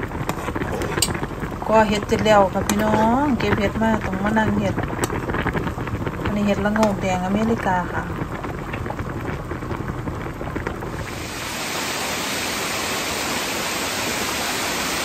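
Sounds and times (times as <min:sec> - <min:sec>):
pan boiling and bubbling: 0:00.0 - 0:15.0.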